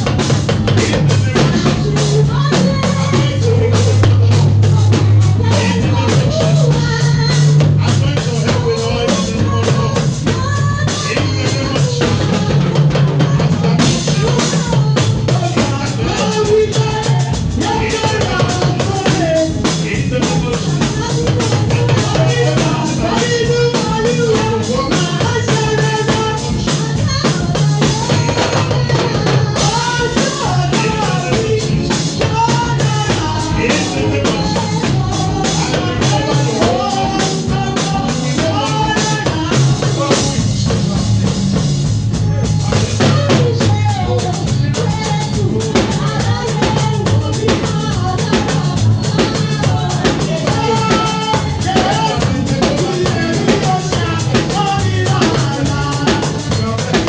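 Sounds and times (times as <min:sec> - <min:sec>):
bass line: 0:00.0 - 0:57.0
church band music: 0:00.0 - 0:57.0
drum kit: 0:00.0 - 0:57.0.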